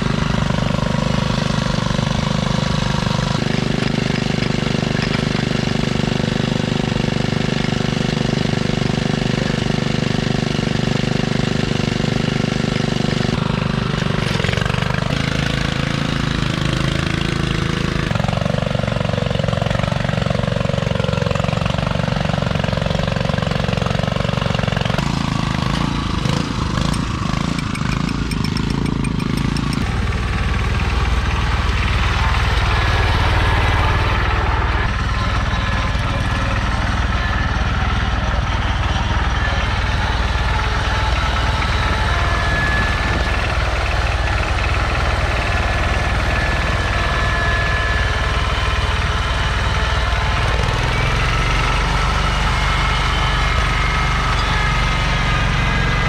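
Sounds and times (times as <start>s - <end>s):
garden tractor engine running: 0.0s - 56.0s.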